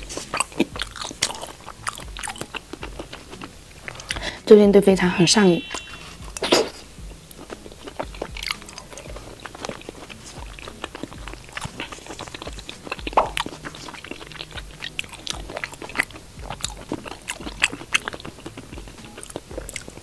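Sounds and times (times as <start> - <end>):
close chewing with crunches: 0.0 - 4.4, 5.6 - 20.0
wet clicks of chewing: 0.0 - 4.4, 5.7 - 20.0.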